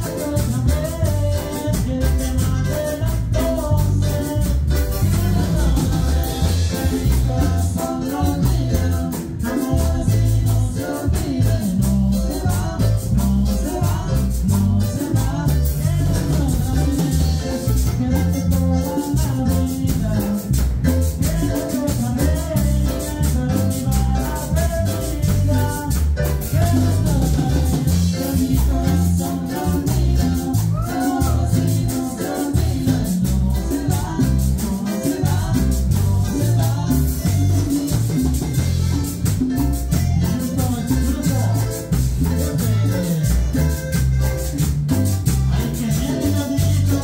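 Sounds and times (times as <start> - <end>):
live band playing dance music: 0.0 - 47.0
man singing: 0.0 - 47.0.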